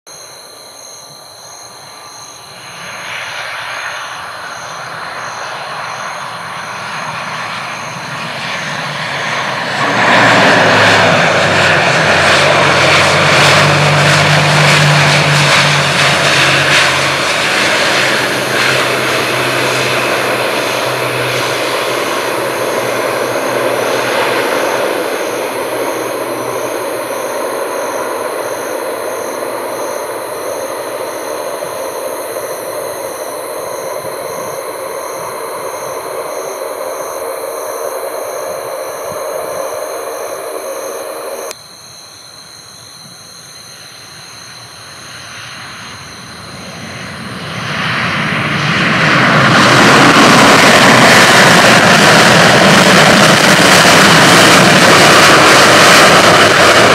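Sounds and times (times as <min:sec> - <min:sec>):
turboprop aircraft droning: 0:01.8 - 0:41.6, 0:43.7 - 0:56.9.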